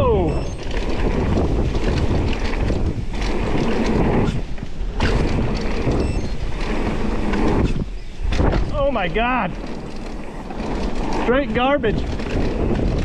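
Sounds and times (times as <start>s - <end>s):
bike frame and chain rattle: 0.0s - 13.0s
bike tyre roar: 0.0s - 13.0s
wind buffeting microphone: 0.0s - 13.0s.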